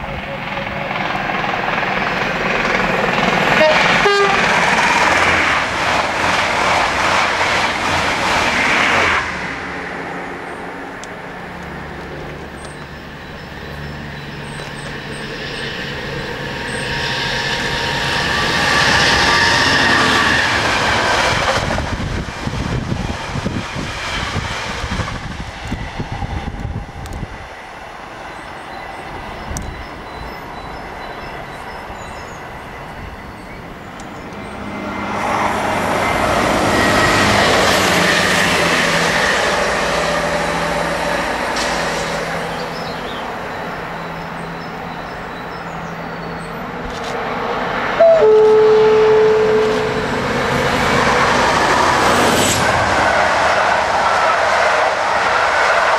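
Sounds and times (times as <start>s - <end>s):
diesel locomotive: 0.0s - 55.9s
trains passing: 0.0s - 55.9s.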